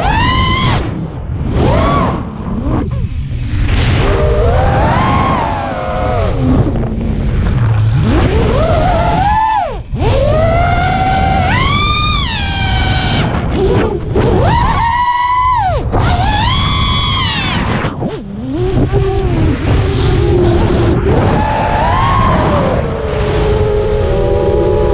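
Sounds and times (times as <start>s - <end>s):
drone motors whining: 0.0s - 24.9s
low wind rumble: 0.0s - 24.9s.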